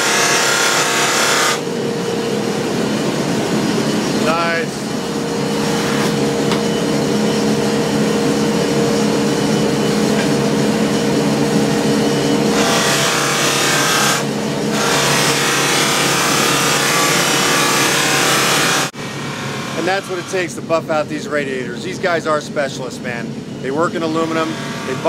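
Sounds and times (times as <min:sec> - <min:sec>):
buffing wheel motor humming: 0:00.0 - 0:20.6.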